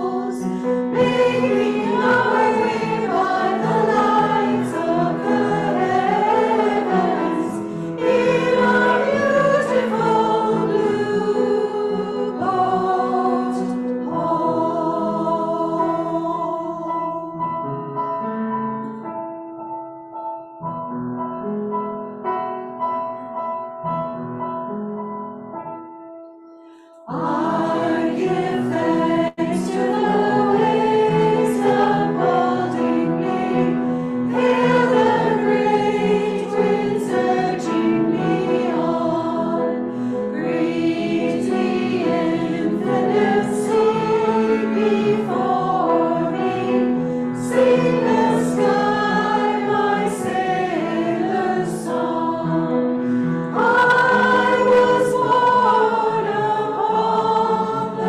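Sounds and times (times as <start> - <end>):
congregation singing a hymn: 0.0 - 17.7, 27.0 - 58.0.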